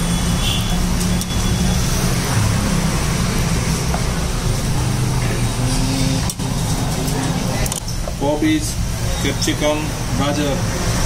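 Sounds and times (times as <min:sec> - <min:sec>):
low rumble of street traffic: 0:00.0 - 0:11.0.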